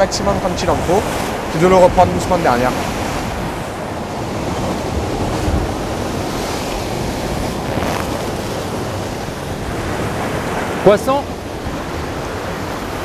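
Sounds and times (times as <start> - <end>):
surf breaking against rocks: 0.0 - 13.0.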